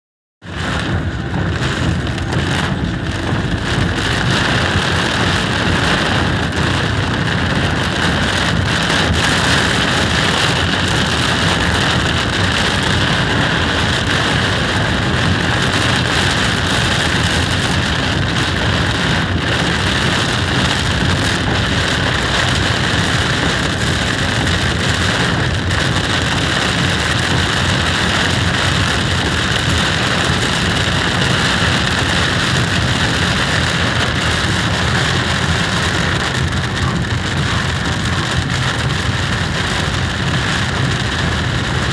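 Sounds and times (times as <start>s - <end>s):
heavy rain on car roof: 0.4s - 41.9s.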